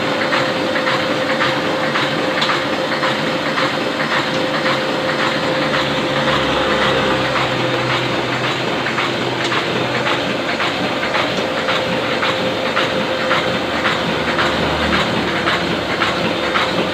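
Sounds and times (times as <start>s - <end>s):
constant machine hum: 0.0s - 16.9s
printing press clattering: 0.0s - 16.9s.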